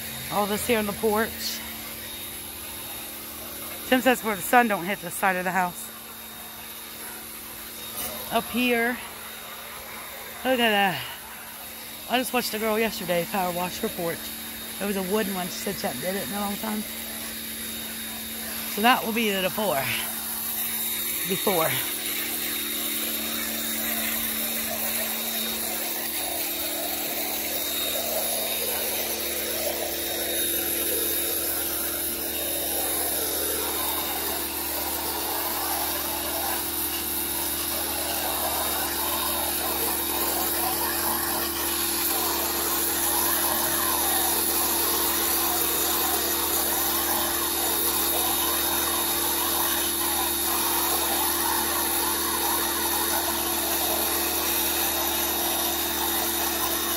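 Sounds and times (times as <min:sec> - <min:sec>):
pressure washer motor hum: 0:00.0 - 0:56.9
water jet hissing: 0:00.0 - 0:56.9.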